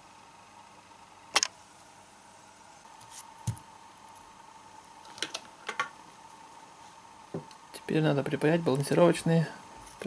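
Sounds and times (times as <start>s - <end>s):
faint high hum: 0.0s - 10.0s.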